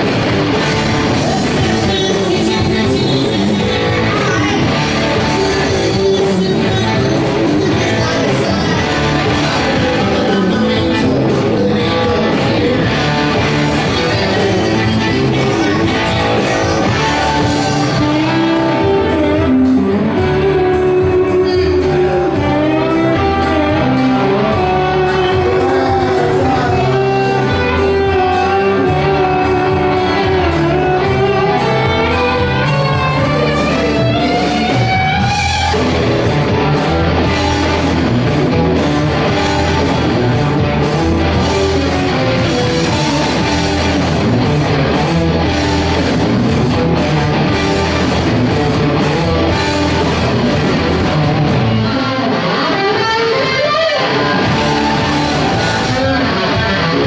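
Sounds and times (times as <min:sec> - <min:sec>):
electric guitar lead bending: 0:00.0 - 0:57.0
rock band playing: 0:00.0 - 0:57.0.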